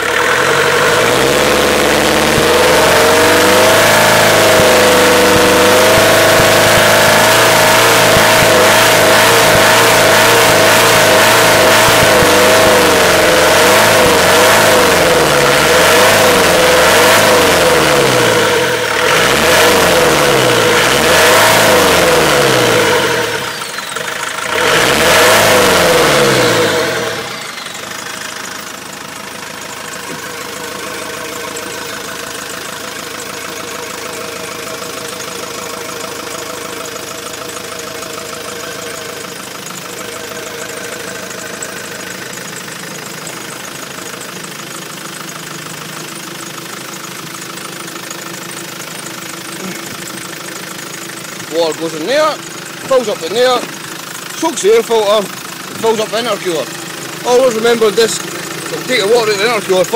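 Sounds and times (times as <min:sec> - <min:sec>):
diesel engine revving and idling: 0:00.0 - 0:59.9.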